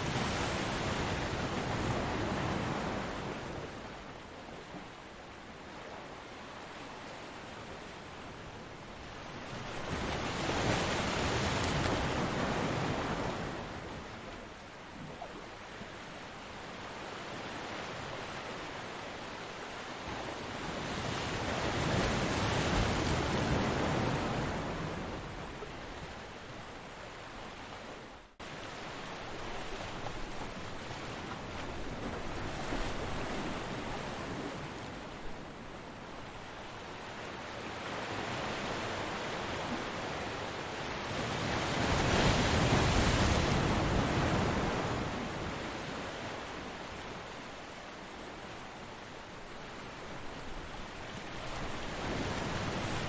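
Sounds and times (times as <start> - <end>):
ocean surf waves: 0.0 - 14.7, 16.0 - 53.0.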